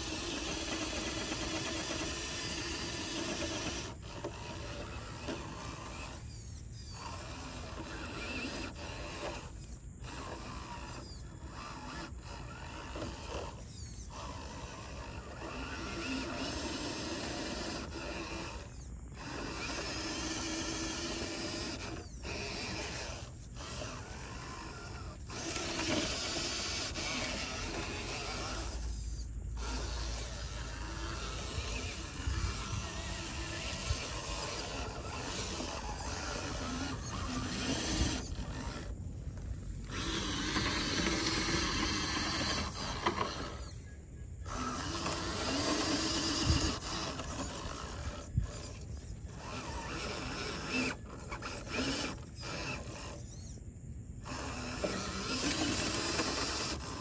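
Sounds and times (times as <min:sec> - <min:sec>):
mechanical whirring and gear clatter: 0:00.0 - 0:57.0.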